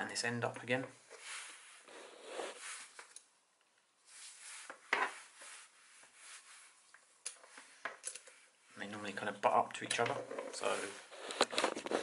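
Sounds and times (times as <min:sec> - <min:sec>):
gloves rubbing and rustling: 0:01.0 - 0:12.0.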